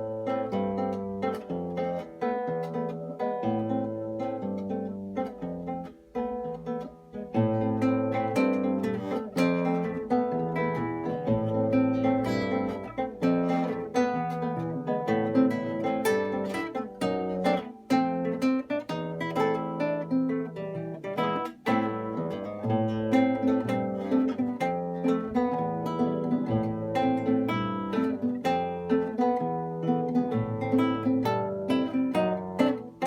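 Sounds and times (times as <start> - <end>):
plucked string instrument duet: 0.0 - 33.0.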